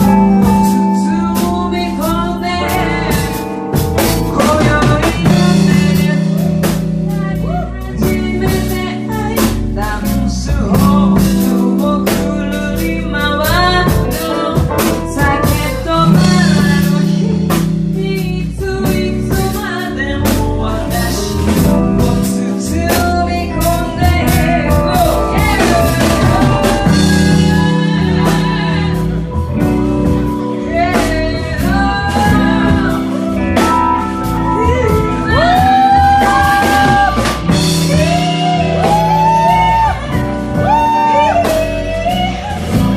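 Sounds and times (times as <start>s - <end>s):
drum kit: 0.0s - 42.9s
guitar: 0.0s - 42.9s
held bass notes: 0.0s - 42.9s
sliding lead melody: 0.0s - 42.9s.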